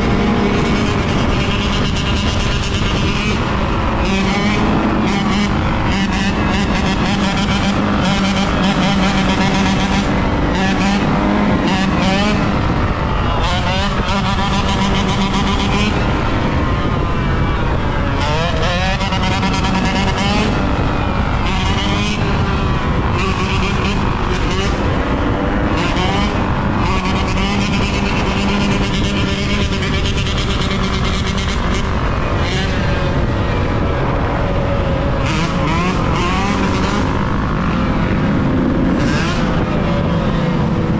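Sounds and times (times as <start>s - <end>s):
dirt bike engine revving: 0.0s - 40.9s
heavy rush of wind: 0.0s - 40.9s.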